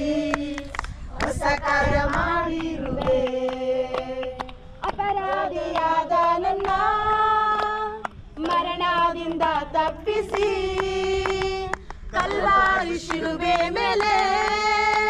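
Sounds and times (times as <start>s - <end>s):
women and children singing: 0.0s - 15.0s
hands clapping: 0.3s - 6.9s, 7.5s - 15.0s.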